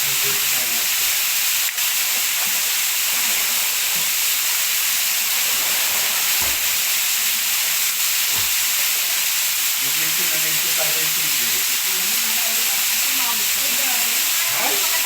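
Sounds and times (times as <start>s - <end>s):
rushing water hiss: 0.0s - 15.0s.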